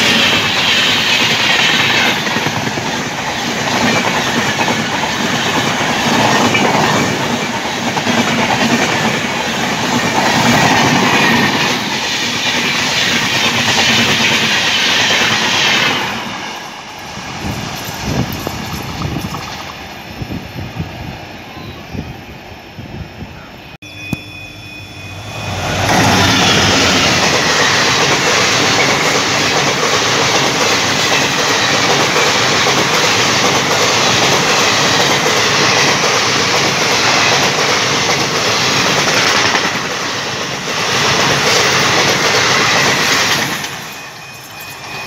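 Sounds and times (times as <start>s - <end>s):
passenger train passing: 0.0s - 45.0s.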